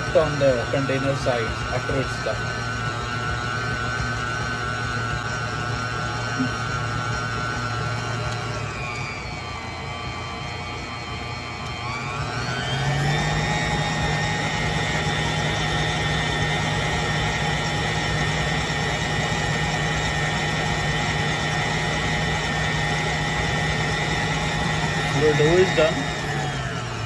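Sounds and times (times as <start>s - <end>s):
stand mixer motor whine: 0.0s - 27.0s.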